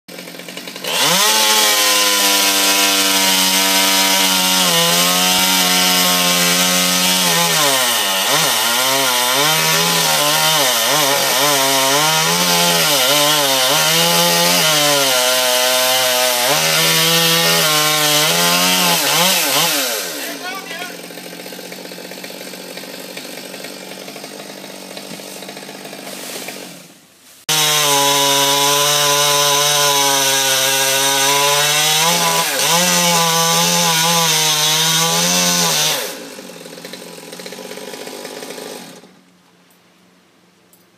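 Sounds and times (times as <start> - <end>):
chainsaw cutting: 0.1 - 39.3.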